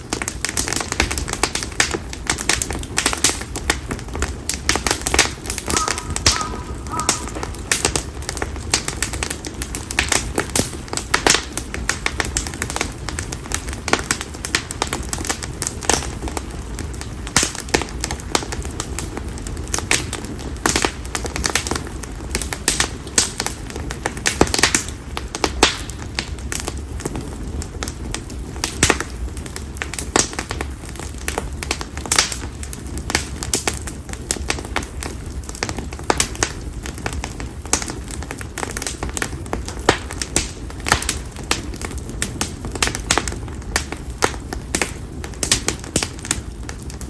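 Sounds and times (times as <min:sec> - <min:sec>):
bonfire crackling: 0:00.0 - 0:47.0.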